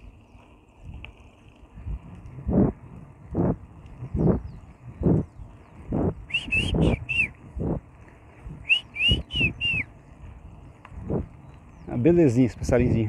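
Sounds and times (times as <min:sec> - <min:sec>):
songbird singing: 0:00.0 - 0:00.8, 0:03.0 - 0:13.0
footsteps on road shoulder: 0:00.0 - 0:06.4, 0:07.1 - 0:12.8.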